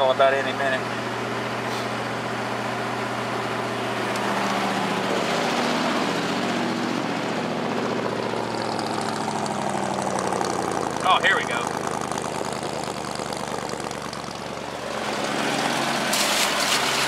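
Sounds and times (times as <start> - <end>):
pickup engine at fast idle: 0.0 - 17.0.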